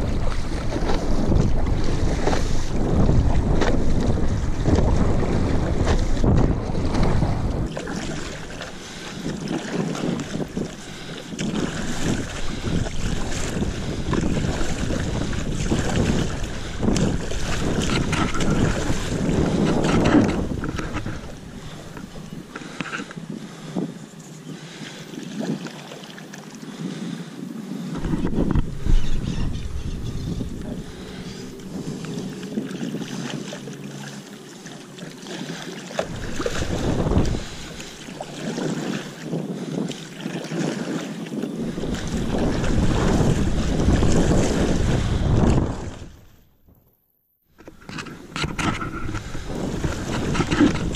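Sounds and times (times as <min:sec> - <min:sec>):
wind buffeting microphone: 0:00.0 - 0:25.7, 0:26.7 - 0:34.2, 0:35.4 - 0:46.4, 0:47.6 - 0:50.9
water sloshing and splashing: 0:00.0 - 0:27.0, 0:27.8 - 0:46.8, 0:47.5 - 0:50.9.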